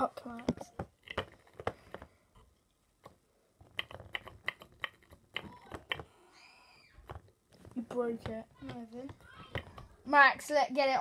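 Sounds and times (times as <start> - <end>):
plastic clicks and taps: 0.3 - 6.1, 7.0 - 10.0.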